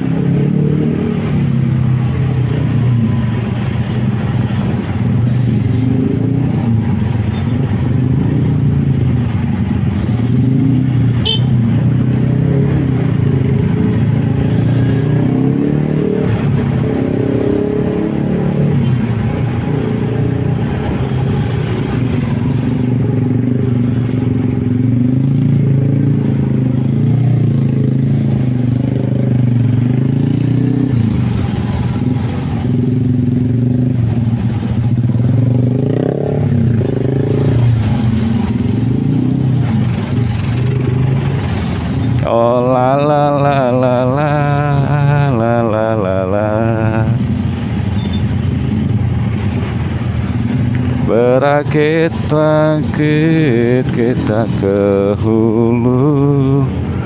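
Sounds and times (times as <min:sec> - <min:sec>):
traffic of motorcycles and cars: 0:00.0 - 0:57.0
motorcycle engine revving: 0:04.0 - 0:57.0.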